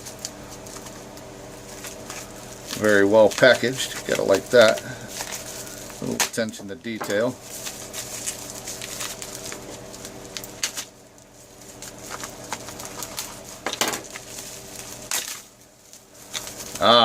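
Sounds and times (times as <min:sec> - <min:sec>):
packaging rustling and crinkling: 0:00.0 - 0:17.0
steady low hum: 0:00.0 - 0:17.0.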